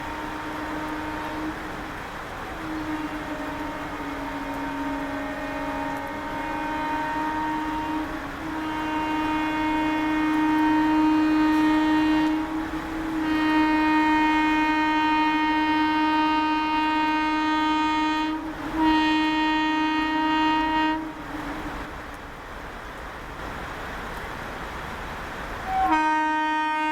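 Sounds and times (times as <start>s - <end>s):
steady rushing noise: 0.0s - 19.4s, 20.5s - 25.8s
locomotive horn blasts: 0.0s - 21.9s, 25.6s - 26.9s.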